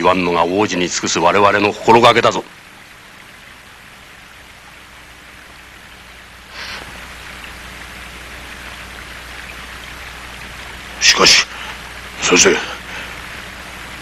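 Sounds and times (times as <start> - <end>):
faint low hum: 0.0 - 14.0
steady rain: 0.0 - 14.0.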